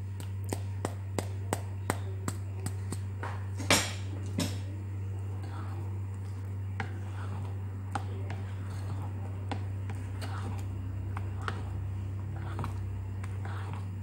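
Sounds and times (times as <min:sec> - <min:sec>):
steady low hum: 0:00.0 - 0:14.0
wet squishing of batter: 0:00.0 - 0:14.0.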